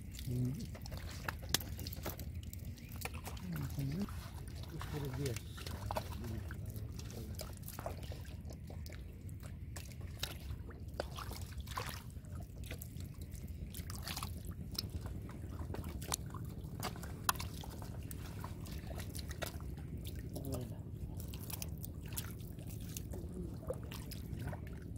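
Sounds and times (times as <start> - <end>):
small splashes in muddy water: 0.0 - 24.9
steady low rumble: 0.0 - 24.9.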